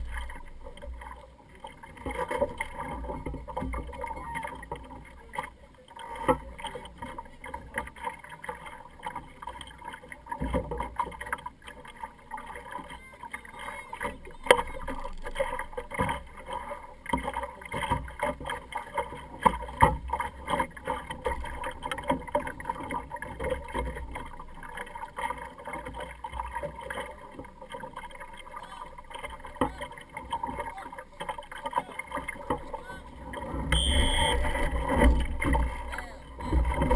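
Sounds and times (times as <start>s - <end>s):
water slapping against hull: 0.0s - 36.9s.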